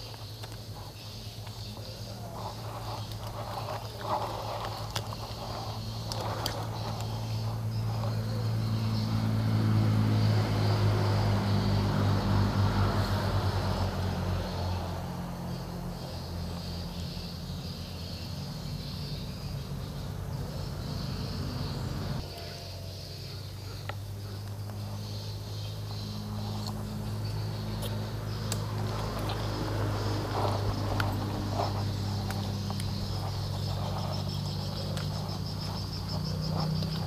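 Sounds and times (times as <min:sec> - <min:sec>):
insects buzzing: 0:00.0 - 0:37.0
small engine running: 0:00.0 - 0:37.0.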